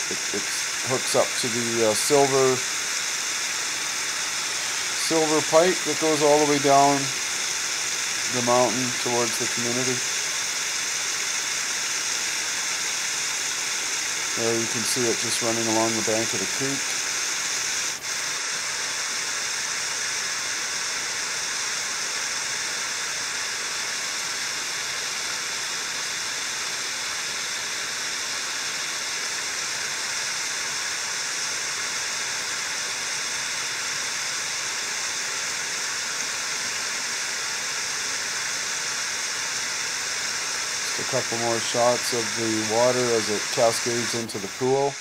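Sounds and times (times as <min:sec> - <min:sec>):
creek water cascading: 0:00.0 - 0:45.0.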